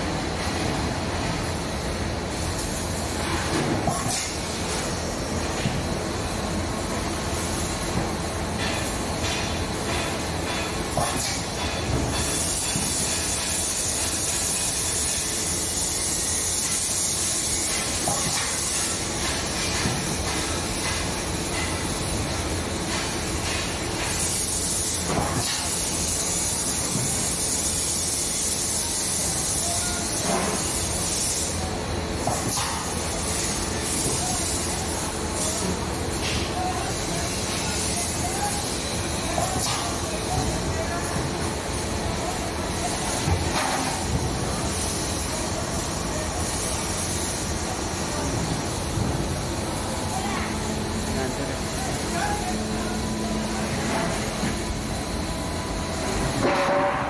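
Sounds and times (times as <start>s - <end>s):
factory machinery hissing and rumbling: 0.0s - 57.0s.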